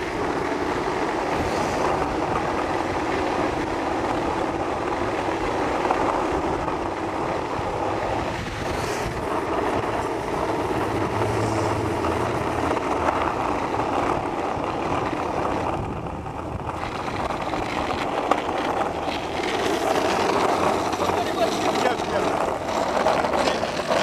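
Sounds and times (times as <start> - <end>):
skateboard wheels rolling on asphalt: 0.0 - 24.0.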